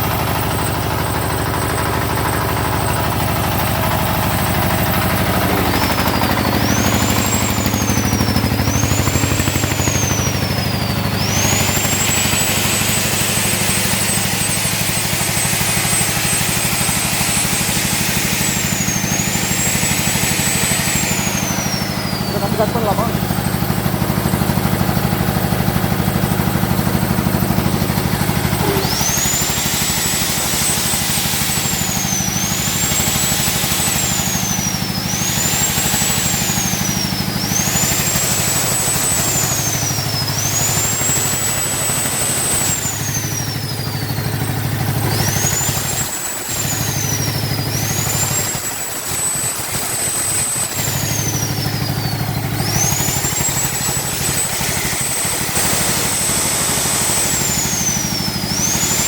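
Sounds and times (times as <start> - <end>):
diesel generator running: 0.0 - 59.0
high-pitched whistle: 0.2 - 43.6, 45.0 - 59.0.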